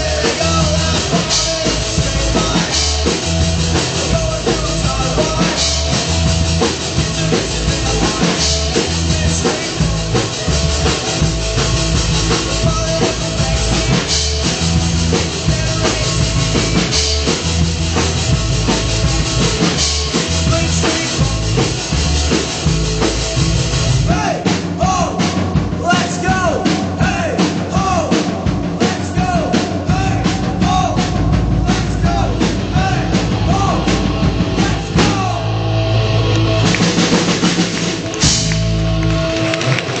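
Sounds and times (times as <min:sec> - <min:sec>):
bass: 0:00.0 - 0:40.0
drum kit beat: 0:00.0 - 0:40.0.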